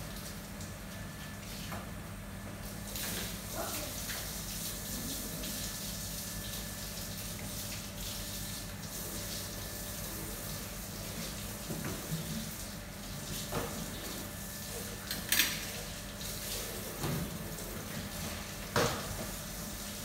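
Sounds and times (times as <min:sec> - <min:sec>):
water running into sink: 0:02.7 - 0:20.0.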